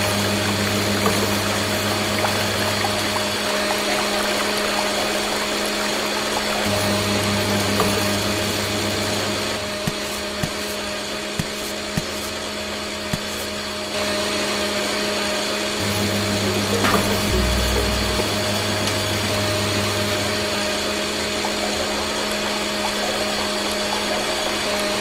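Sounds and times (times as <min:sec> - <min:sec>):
small electric motor whine: 0:00.0 - 0:25.0.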